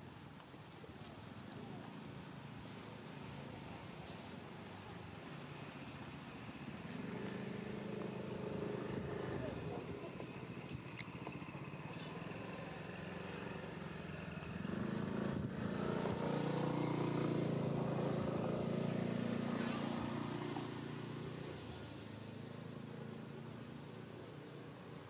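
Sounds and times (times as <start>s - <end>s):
passing vehicle engine drone: 1.6s - 25.0s.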